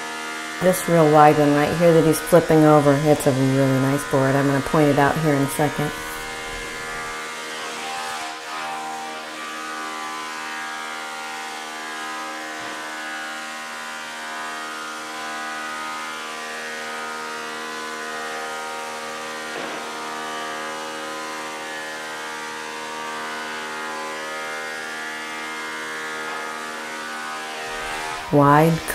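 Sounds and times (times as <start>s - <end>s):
lumber planer running: 0.0s - 28.9s.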